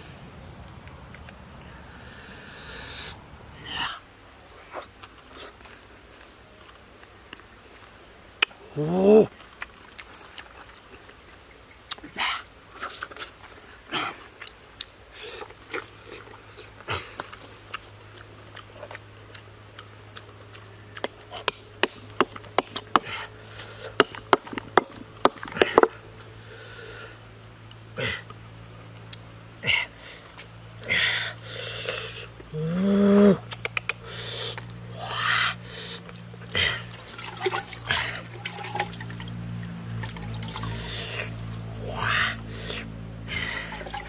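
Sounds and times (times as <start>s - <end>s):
insect drone: 0.0s - 44.0s.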